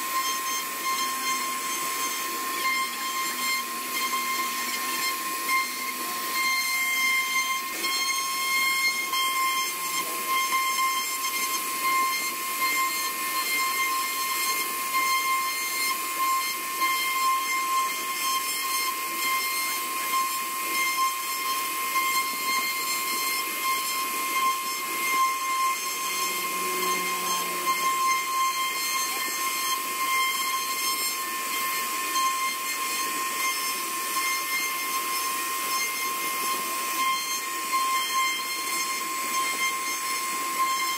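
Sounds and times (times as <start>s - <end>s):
hiss of wood cutting: 0.0s - 40.9s
router spindle whine: 0.0s - 40.9s.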